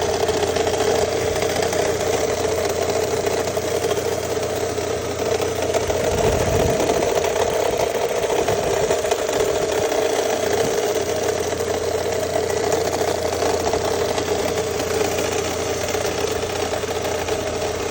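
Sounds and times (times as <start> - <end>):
engine idling: 0.0 - 17.9
engine knocking: 0.0 - 17.9.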